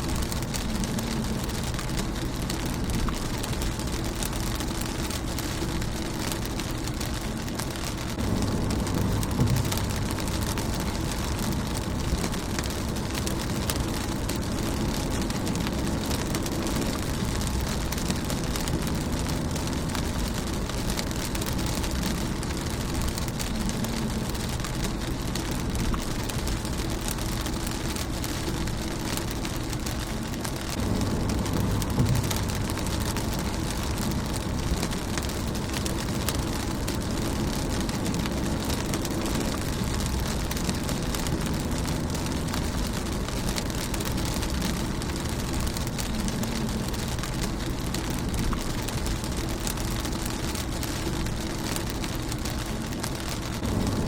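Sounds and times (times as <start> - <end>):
rain on a car windshield: 0.0 - 54.0
steady low rumble: 0.0 - 54.0.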